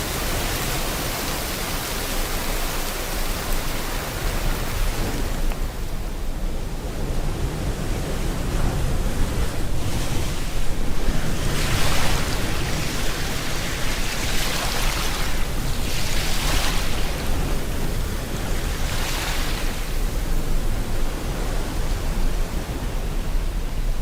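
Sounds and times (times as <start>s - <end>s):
rain rushing: 0.0s - 21.6s
ocean waves washing in: 0.0s - 24.0s.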